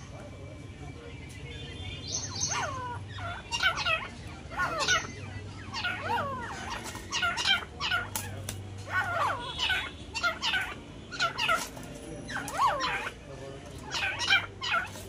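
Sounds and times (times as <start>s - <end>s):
francolins calling: 0.0s - 15.0s.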